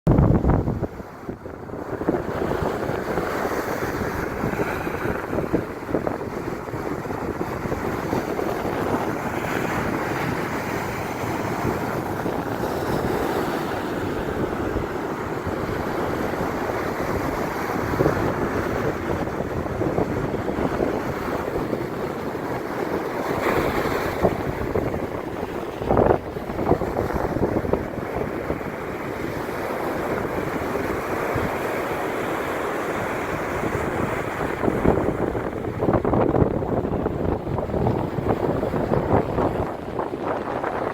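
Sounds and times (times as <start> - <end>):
wind buffeting microphone: 0.1 - 40.9
sea waves breaking: 0.2 - 40.9.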